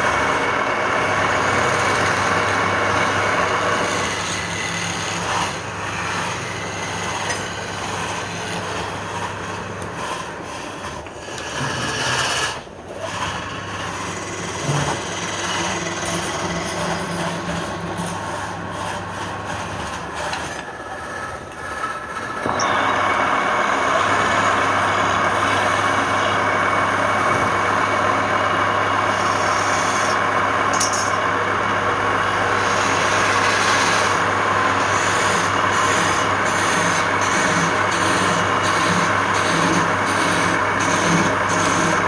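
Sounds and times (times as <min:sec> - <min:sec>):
lathe motor hum: 0:00.0 - 0:42.0
tool cutting spinning wood: 0:00.0 - 0:42.0.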